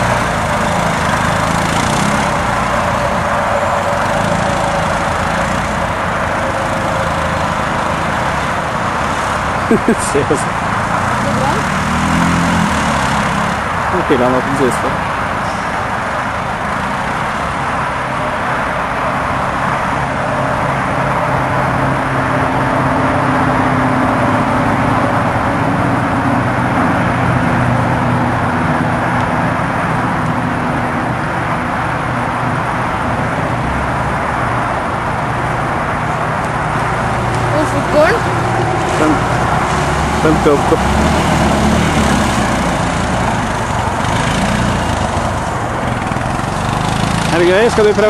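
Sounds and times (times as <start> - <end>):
ride noise: 0.0 - 48.0
vehicle engine running under load: 0.0 - 48.0.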